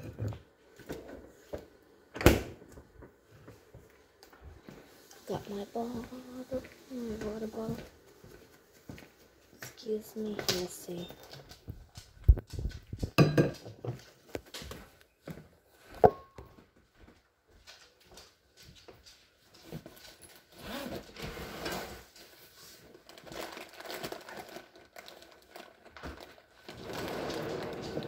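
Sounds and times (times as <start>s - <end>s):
rustling and shuffling: 0.0s - 28.0s.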